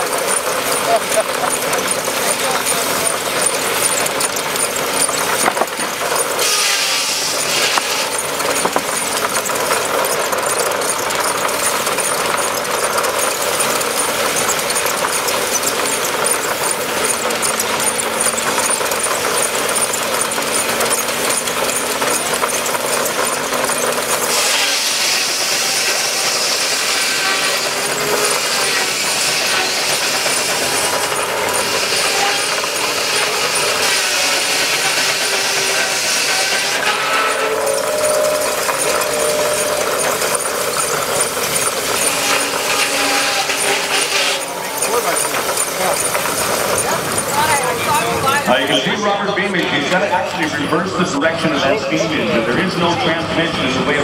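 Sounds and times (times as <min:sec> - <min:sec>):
circular saw cutting log: 0:00.0 - 0:53.8.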